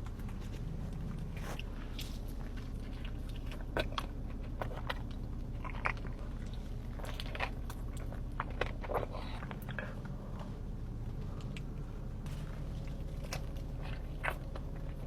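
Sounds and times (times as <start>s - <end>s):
biting and chewing crunches: 0.0s - 15.0s
low hum: 0.0s - 15.0s.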